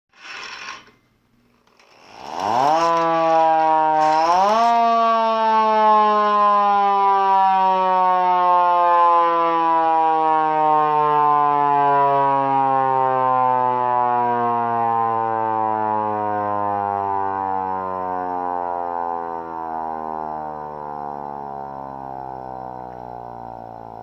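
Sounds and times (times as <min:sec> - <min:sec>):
hand-crank siren growling: 0:01.6 - 0:24.0.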